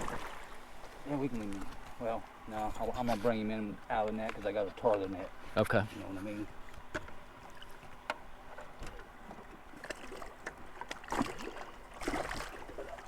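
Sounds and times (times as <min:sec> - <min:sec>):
water splashing in a boat: 0:00.0 - 0:13.0.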